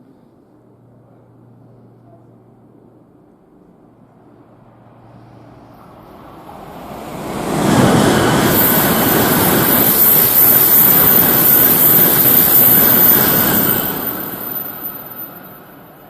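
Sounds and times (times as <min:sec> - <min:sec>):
bullet train passing at high speed: 0:02.6 - 0:16.0.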